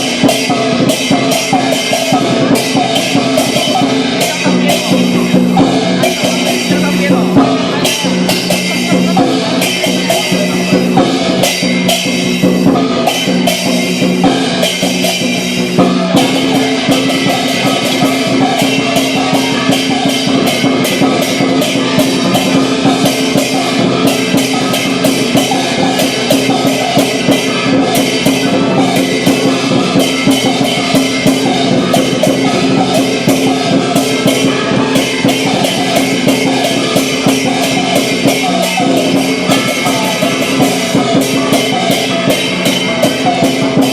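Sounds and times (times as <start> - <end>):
clashing cymbals: 0.0 - 43.9
drum beaten rapidly: 0.0 - 43.9.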